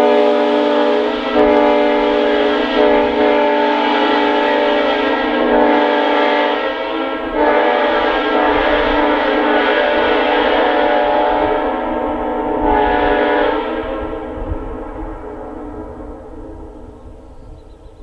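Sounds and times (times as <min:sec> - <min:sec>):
locomotive air horn: 0:00.0 - 0:17.0.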